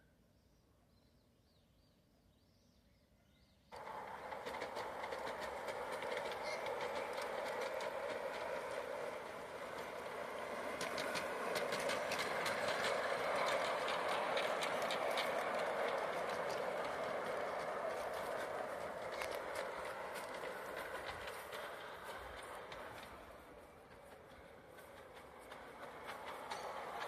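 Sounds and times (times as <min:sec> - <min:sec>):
model train running on track: 0:03.7 - 0:27.0
wheels clicking over rail joints: 0:03.7 - 0:27.0.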